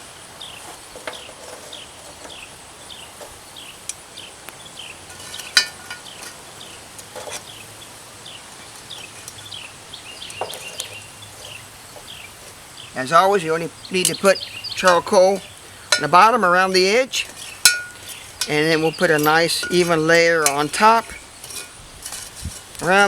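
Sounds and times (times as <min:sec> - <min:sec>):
metal tongs clinking charcoal: 0:00.8 - 0:23.0.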